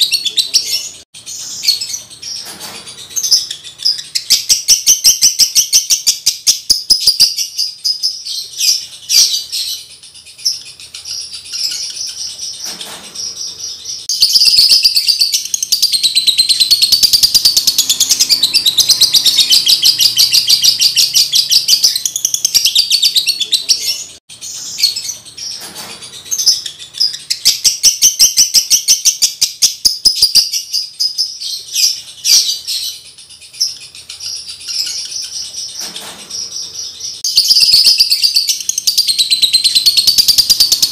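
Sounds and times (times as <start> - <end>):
lovebird chattering song: 0.0 - 40.9.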